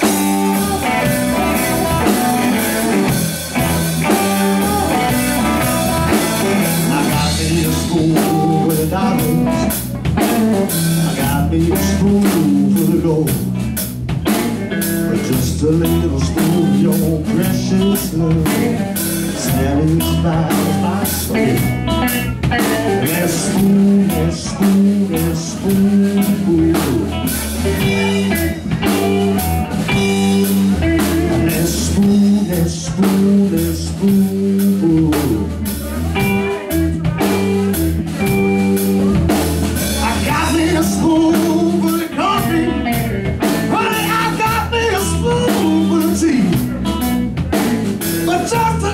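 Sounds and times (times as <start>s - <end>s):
drum kit beat: 0.0s - 48.9s
electric guitars: 0.0s - 48.9s.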